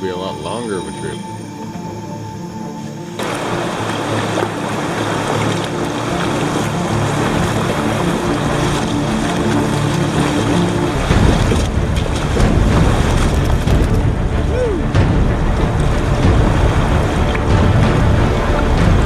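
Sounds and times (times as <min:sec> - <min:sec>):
river water rushing: 0:02.6 - 0:19.0
wind buffeting microphone: 0:03.2 - 0:19.0.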